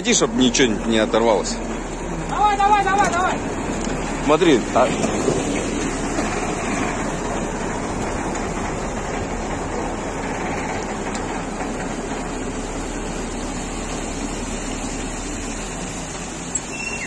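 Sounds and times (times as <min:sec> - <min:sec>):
water rushing and churning: 0:00.0 - 0:17.0.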